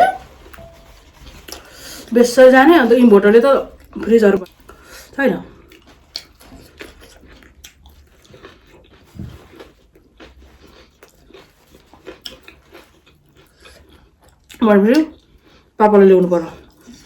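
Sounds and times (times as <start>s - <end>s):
person chewing food: 0.1s - 2.1s, 3.7s - 15.8s, 16.6s - 17.0s.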